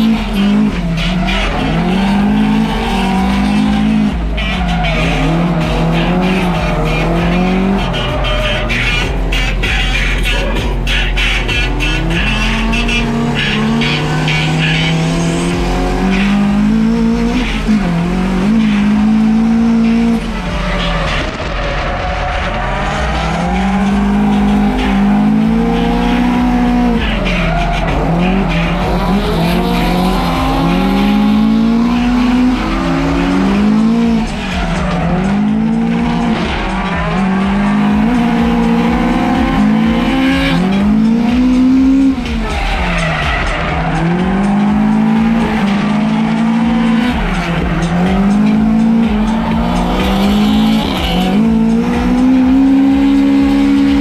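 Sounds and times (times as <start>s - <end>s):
car engine revving hard: 0.0s - 54.0s
tyres screeching: 0.0s - 54.0s.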